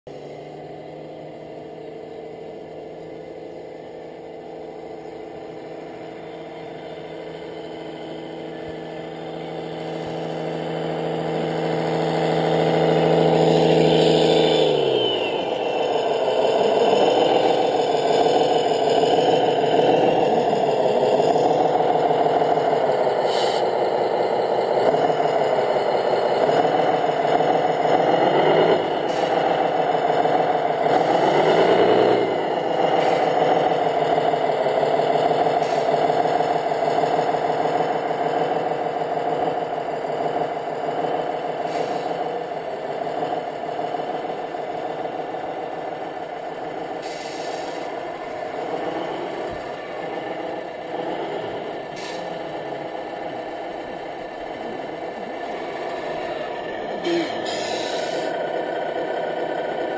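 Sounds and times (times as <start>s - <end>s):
model truck engines running: 0.1s - 59.9s.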